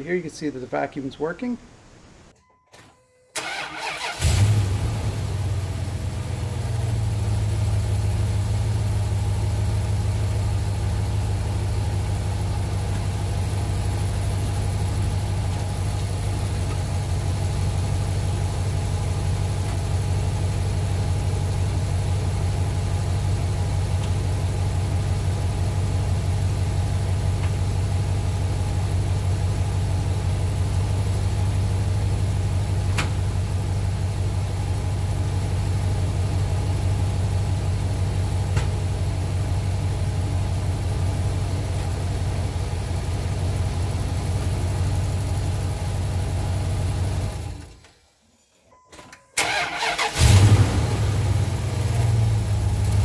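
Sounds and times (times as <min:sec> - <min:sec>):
truck engine starting and idling: 0:03.3 - 0:53.0.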